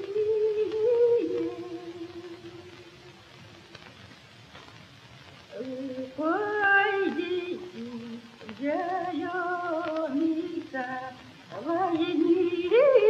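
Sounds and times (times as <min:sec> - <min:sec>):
woman singing unaccompanied: 0:00.0 - 0:03.3, 0:05.5 - 0:13.0.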